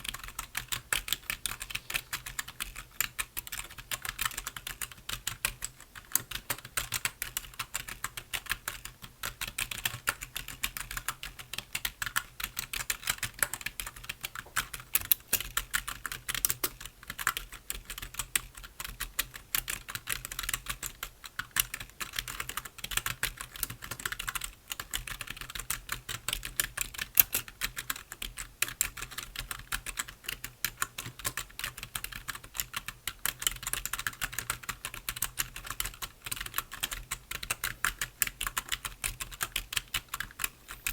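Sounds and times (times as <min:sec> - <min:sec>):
typing on computer keyboard: 0:00.0 - 0:40.9.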